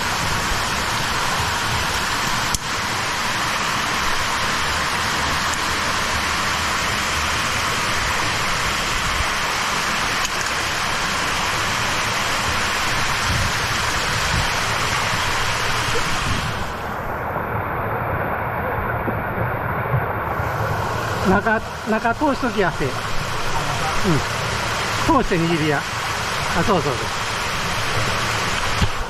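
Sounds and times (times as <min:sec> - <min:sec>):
stream water rushing over rocks: 0:00.0 - 0:29.0.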